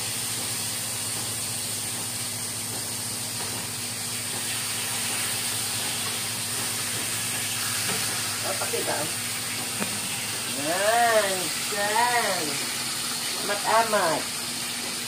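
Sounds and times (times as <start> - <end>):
fish frying hiss: 0.0 - 15.0.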